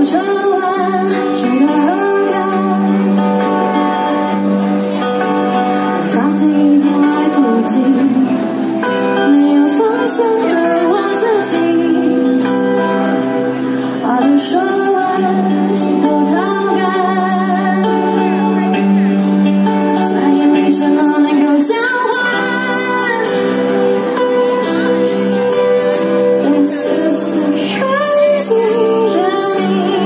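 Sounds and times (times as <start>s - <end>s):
guitars with long bending notes: 0.0s - 30.0s
live band playing through speakers: 0.0s - 30.0s.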